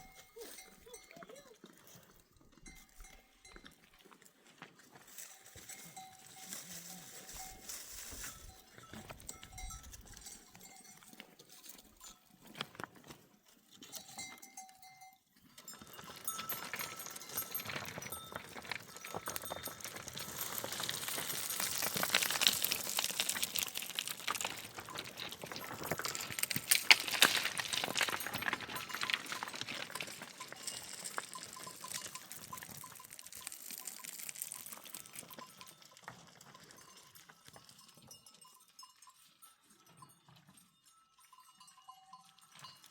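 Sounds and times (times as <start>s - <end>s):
livestock bells clinking: 0.0s - 42.9s.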